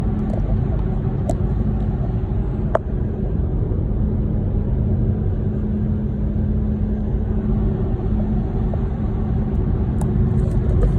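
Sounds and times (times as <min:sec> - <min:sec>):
low rumble and hum: 0:00.0 - 0:10.9.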